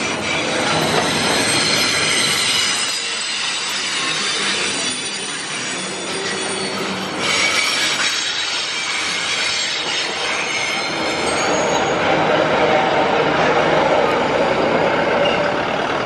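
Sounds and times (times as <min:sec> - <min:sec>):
train rumble: 0:00.0 - 0:16.0
train wheels squealing: 0:00.0 - 0:16.0.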